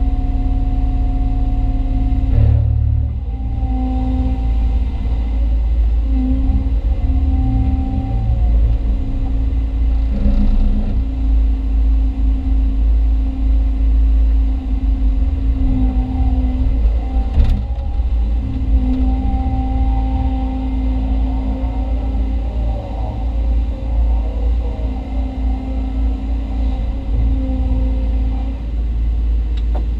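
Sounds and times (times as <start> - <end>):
excavator diesel engine running: 0.0 - 29.9
hydraulic whine: 0.0 - 29.9.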